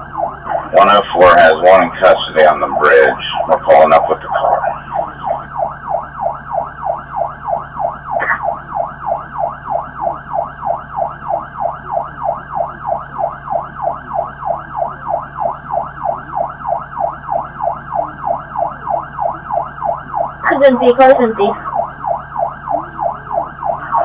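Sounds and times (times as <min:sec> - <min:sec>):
police siren yelp: 0:00.0 - 0:24.0.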